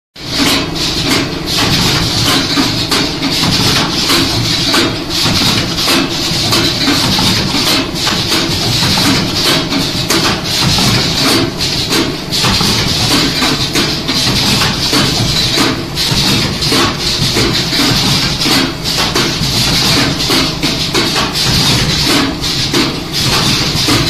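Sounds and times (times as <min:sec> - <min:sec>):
machine humming and hissing: 0:00.2 - 0:24.0
machine parts clacking: 0:00.3 - 0:24.0.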